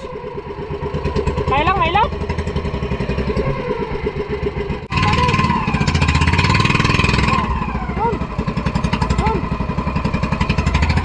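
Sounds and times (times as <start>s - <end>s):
boat engine puttering: 0.0s - 11.0s.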